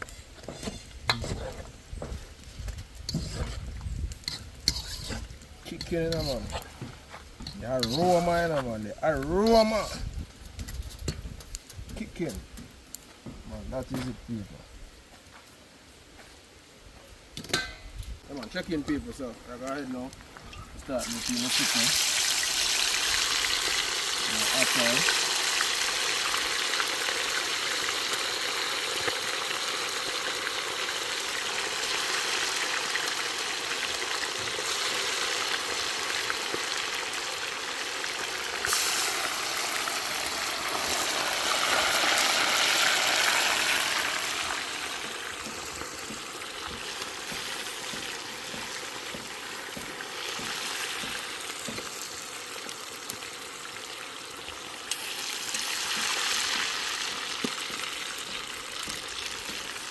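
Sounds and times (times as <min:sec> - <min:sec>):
chicken sizzling in a pot: 0:00.0 - 0:12.5, 0:17.3 - 0:59.9.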